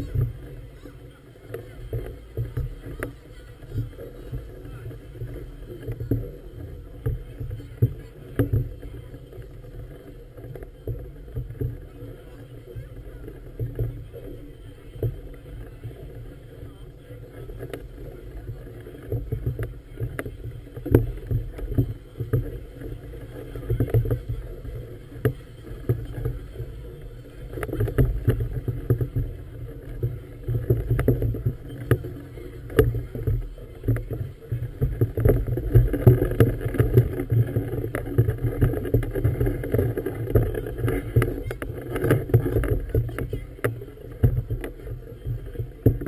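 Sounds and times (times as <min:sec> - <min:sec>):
water slapping against a hull: 0:01.5 - 0:46.0.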